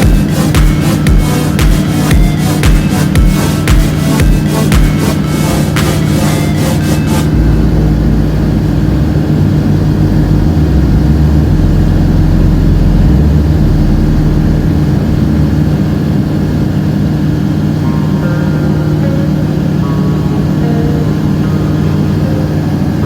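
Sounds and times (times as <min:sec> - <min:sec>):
light aircraft engine droning: 0:00.0 - 0:23.0.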